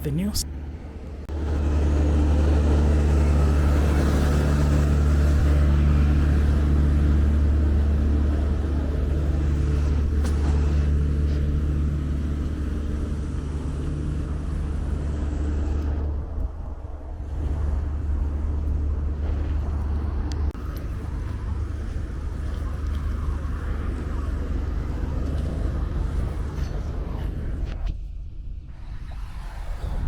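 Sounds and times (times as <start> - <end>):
vehicle engine droning: 0.0 - 27.8.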